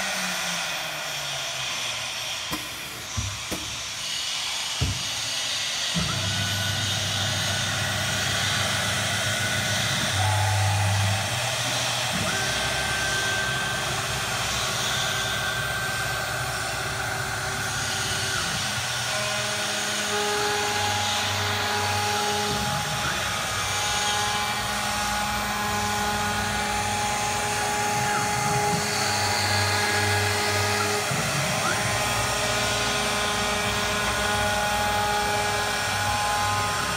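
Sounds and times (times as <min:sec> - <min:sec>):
hissing cutting noise: 0:00.0 - 0:36.9
motor tones: 0:00.0 - 0:36.9
router spindle whining: 0:00.0 - 0:36.9.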